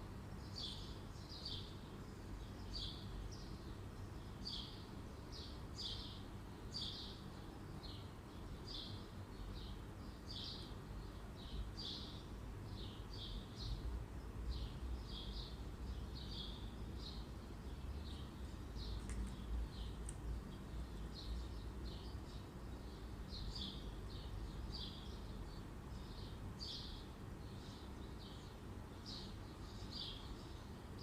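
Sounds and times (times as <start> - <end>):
bird chirping: 0.4 - 31.0.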